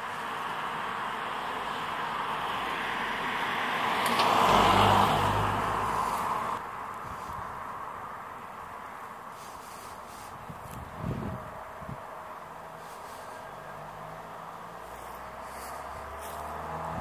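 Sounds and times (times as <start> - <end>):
car passing by: 0.0 - 8.3, 9.3 - 17.0.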